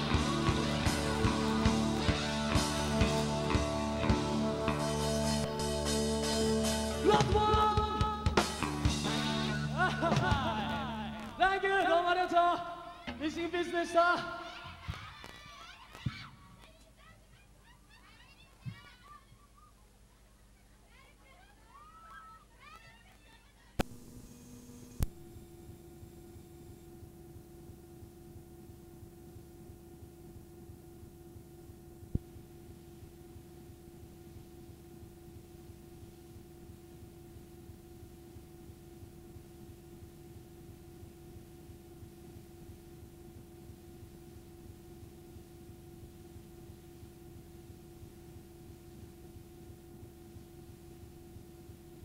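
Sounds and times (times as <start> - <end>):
steady electrical hum: 0.0 - 52.0.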